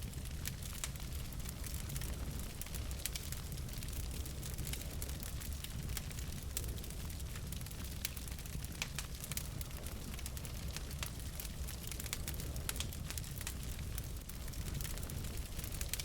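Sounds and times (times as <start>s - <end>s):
wood fire crackling in fireplace: 0.0s - 16.0s.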